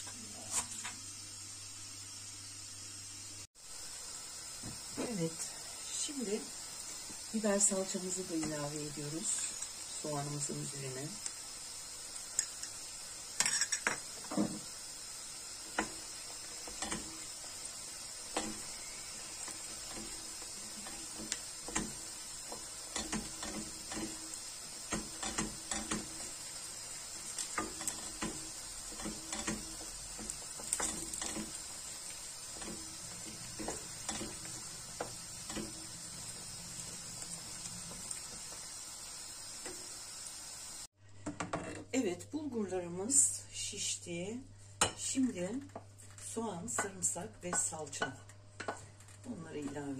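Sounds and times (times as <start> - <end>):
onions sizzling in a frying pan: 0.0 - 41.0, 42.0 - 49.9.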